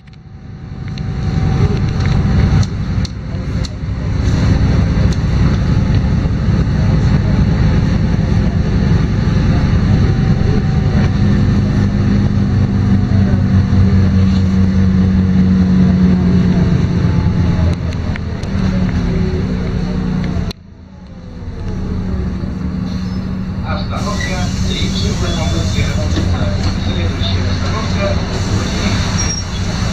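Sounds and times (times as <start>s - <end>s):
bus diesel engine droning: 0.0s - 29.9s.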